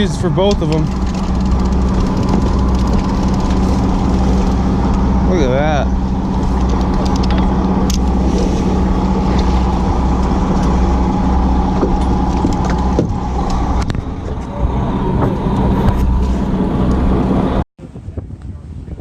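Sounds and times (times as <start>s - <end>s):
boat engine humming: 0.0s - 17.6s.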